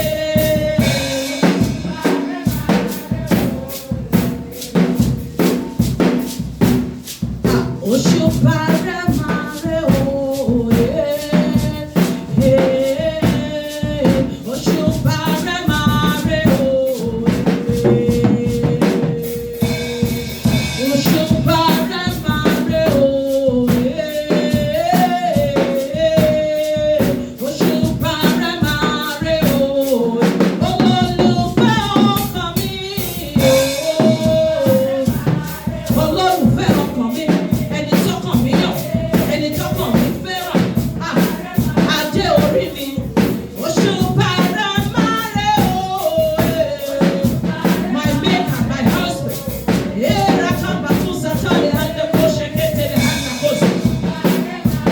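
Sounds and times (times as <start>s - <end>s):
drum kit beat: 0.0s - 54.9s
worship music: 0.0s - 54.9s.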